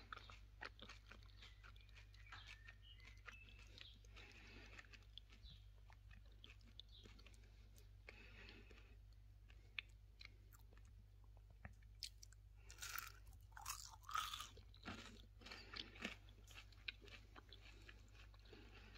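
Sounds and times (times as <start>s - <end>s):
crunchy food chewing: 0.0s - 18.9s.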